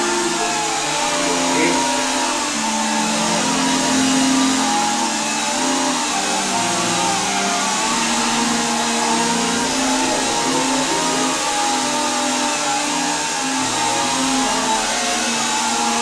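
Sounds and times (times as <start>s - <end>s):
quadcopter buzzing whine: 0.0s - 16.0s.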